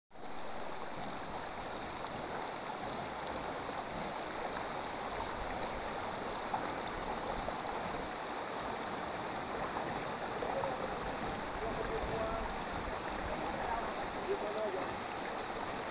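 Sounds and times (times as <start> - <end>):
waterfall rushing: 0.2 - 15.9.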